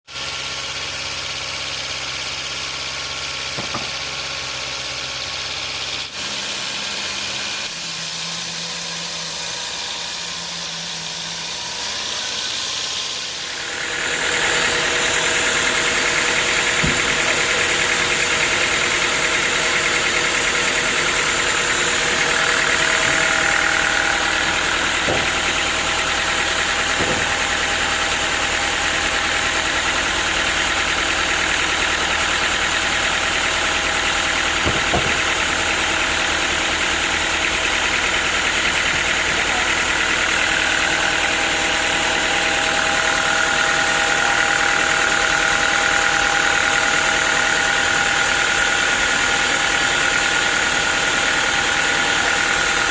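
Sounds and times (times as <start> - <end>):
sawmill machinery humming: 0.1 - 52.9.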